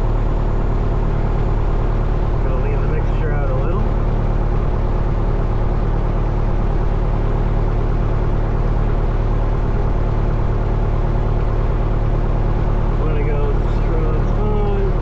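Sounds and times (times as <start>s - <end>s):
propeller plane engine idling: 0.0s - 15.0s.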